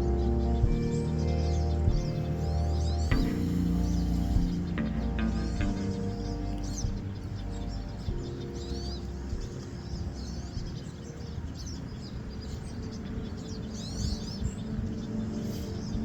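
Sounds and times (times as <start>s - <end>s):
faint music: 0.0s - 16.0s
small songbirds chirping: 0.0s - 16.0s.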